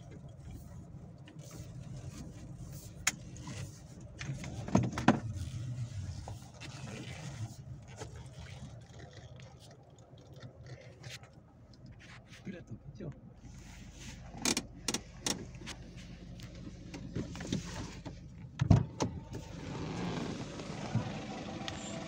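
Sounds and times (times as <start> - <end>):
vehicle cabin rumble: 0.0 - 22.0.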